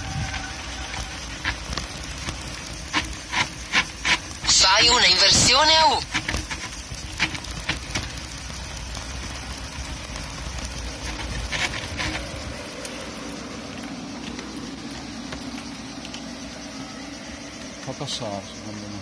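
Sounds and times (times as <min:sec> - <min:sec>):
bike tyres crunching on gravel: 0:00.0 - 0:17.9
bike rattling over bumps: 0:00.0 - 0:18.3.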